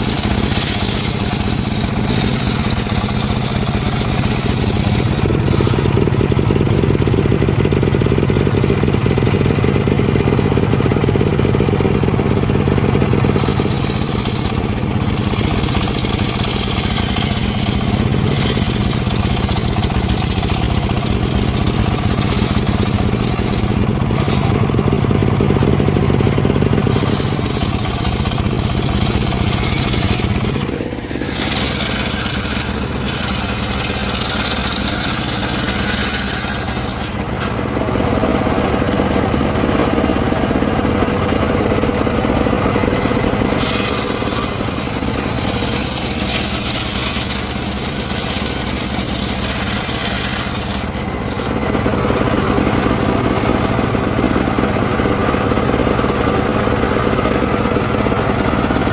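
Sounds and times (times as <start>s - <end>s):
engine-powered wood saw running: 0.0s - 58.9s.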